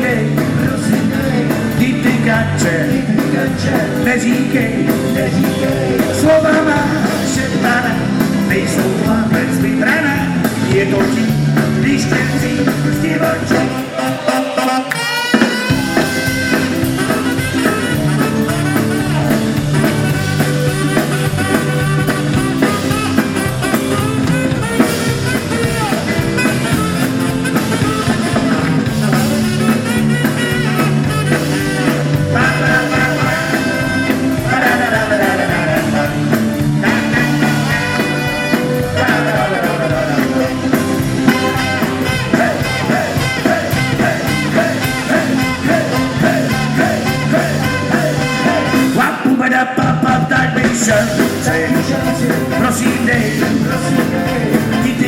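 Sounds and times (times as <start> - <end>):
electric guitar melody: 0.0 - 49.2, 50.6 - 55.0
rock band playing live: 0.0 - 55.0.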